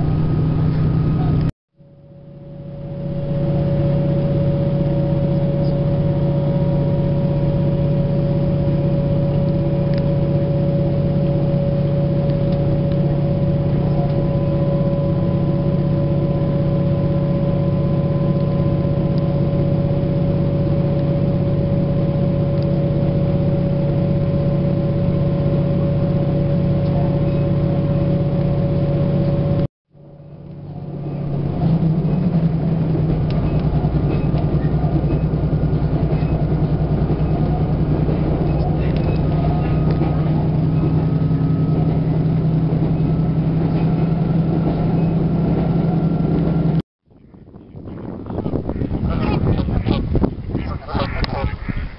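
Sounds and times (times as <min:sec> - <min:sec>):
vehicle interior drone: 0:00.0 - 0:51.8.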